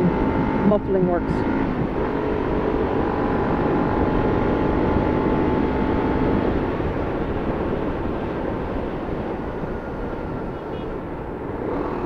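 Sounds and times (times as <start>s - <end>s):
motorcycle engine hum: 0.0s - 12.0s
wind rush: 1.4s - 12.0s.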